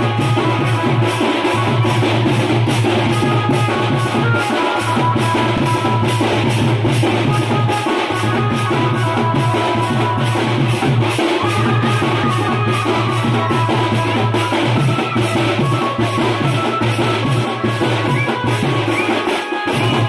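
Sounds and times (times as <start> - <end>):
fast drum beat: 0.0 - 20.0.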